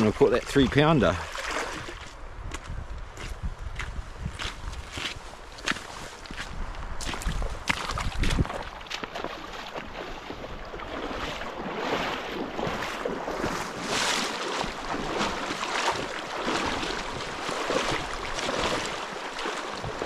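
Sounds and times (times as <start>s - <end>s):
wading through river water: 0.0s - 2.5s, 4.3s - 20.0s.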